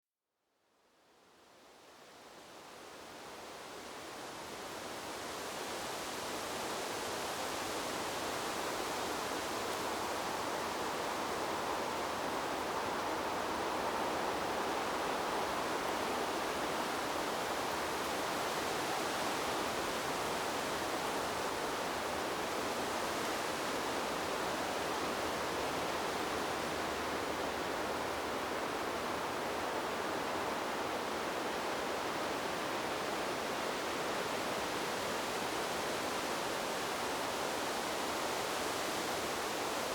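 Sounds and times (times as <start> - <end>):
wind rustling leaves and branches: 1.0 - 39.9.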